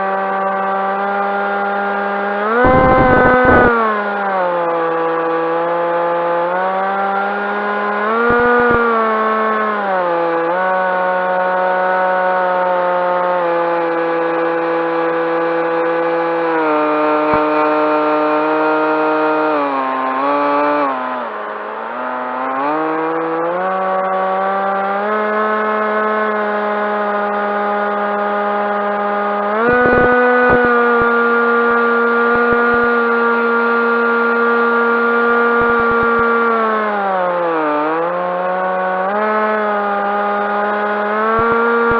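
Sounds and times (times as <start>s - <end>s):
electric motor and propeller droning: 0.0s - 41.9s.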